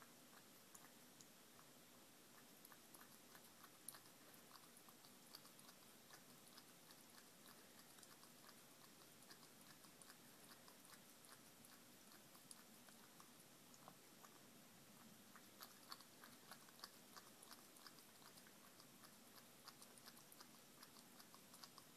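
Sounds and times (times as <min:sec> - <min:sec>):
cat chewing food: 0:00.0 - 0:21.9.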